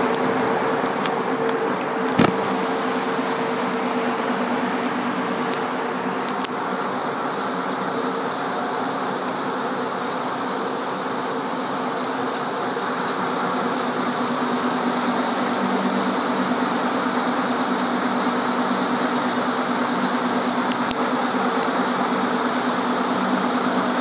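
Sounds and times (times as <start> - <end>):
fire truck idling: 0.0 - 24.0.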